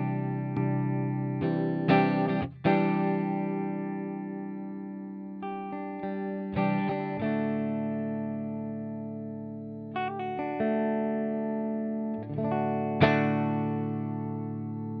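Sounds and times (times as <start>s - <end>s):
electric guitar chords: 0.0s - 15.0s.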